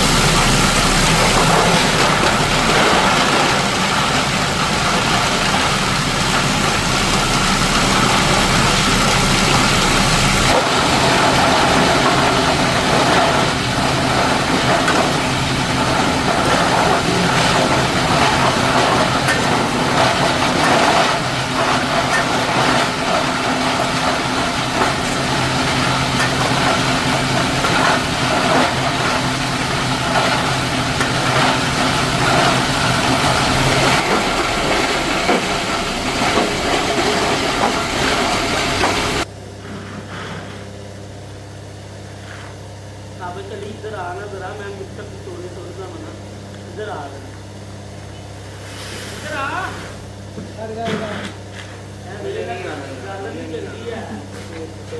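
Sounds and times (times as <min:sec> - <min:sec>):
machinery humming: 0:00.0 - 0:54.9.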